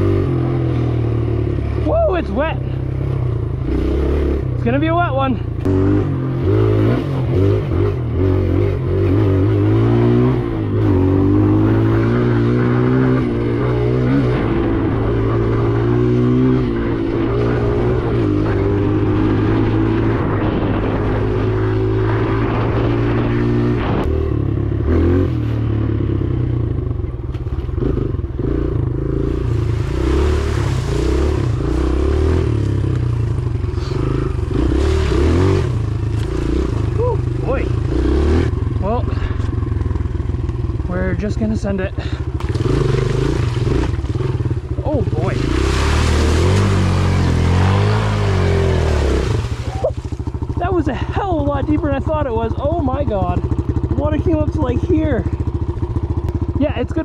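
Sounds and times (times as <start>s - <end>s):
dirt bike engine revving: 0.0s - 27.0s, 27.7s - 57.0s.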